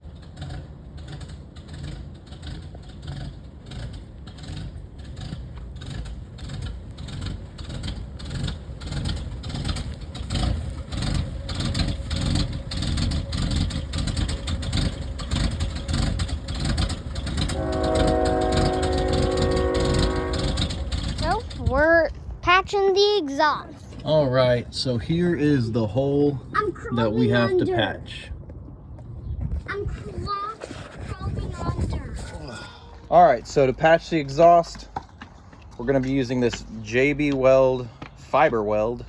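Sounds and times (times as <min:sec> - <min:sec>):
engine rumble with exhaust leak: 0:00.0 - 0:39.0.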